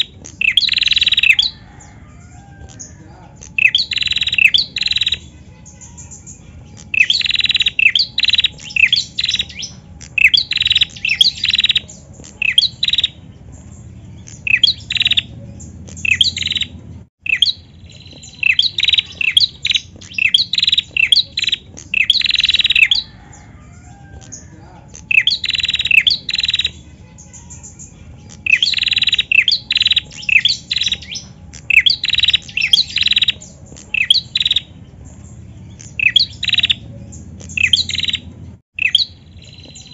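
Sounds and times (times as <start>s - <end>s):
bird high sharp chirps: 0.0s - 39.9s.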